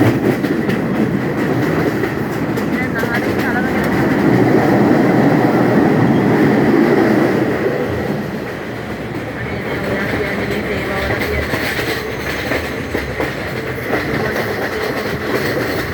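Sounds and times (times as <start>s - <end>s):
train rumbling on rails: 0.0s - 15.9s.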